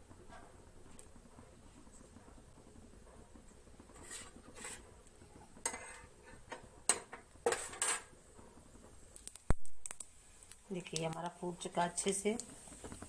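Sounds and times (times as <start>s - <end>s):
seeds popping in hot oil: 0.1s - 13.0s.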